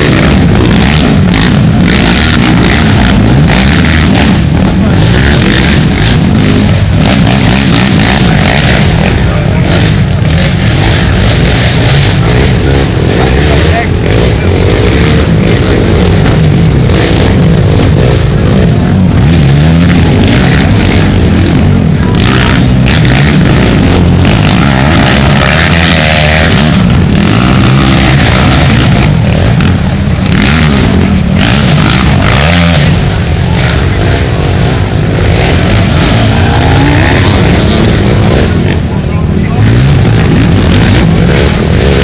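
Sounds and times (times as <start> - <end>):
racing atv engines revving: 0.0 - 42.0.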